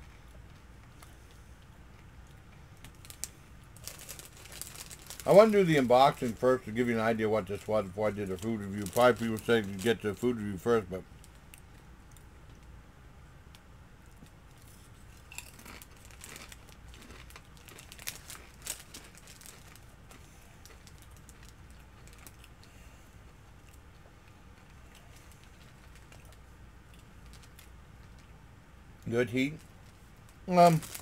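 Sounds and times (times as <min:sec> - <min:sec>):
chip crunching and chewing: 0:00.3 - 0:12.7, 0:13.6 - 0:28.4, 0:29.5 - 0:31.0.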